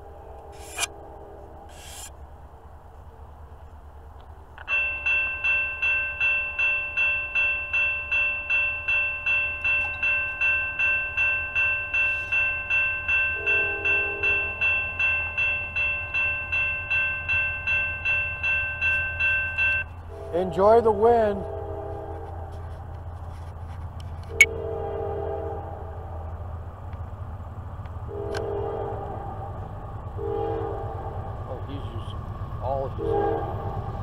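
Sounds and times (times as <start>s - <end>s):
crossing warning bell ringing: 4.6s - 22.8s, 24.3s - 34.0s.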